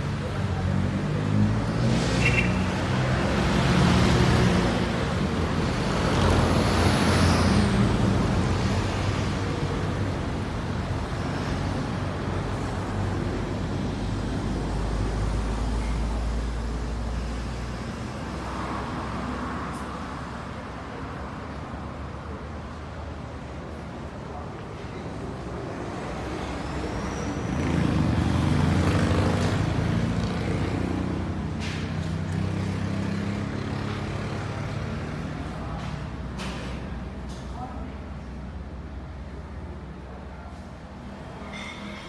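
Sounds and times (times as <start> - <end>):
steady traffic hum: 0.0 - 42.0
vehicles passing by: 0.0 - 42.0.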